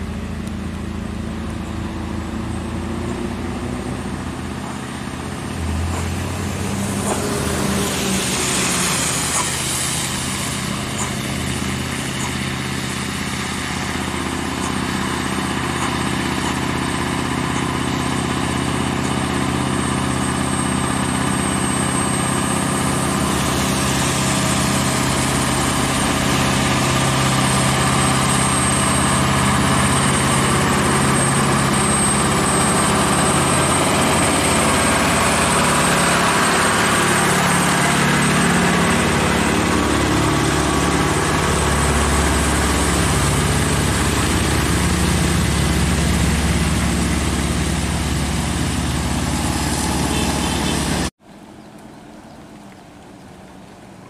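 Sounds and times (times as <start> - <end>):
diesel truck engine running: 0.0 - 51.2.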